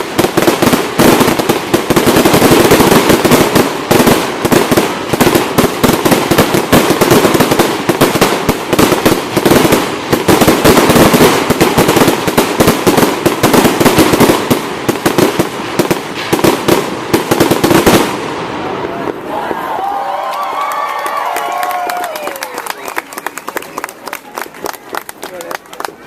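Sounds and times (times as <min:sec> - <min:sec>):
fireworks bangs: 0:00.0 - 0:25.2.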